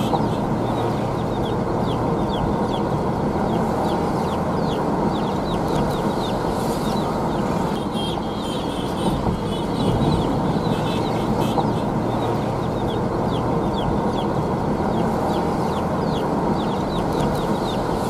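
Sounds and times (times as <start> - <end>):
road and engine noise in cabin: 0.0 - 18.0.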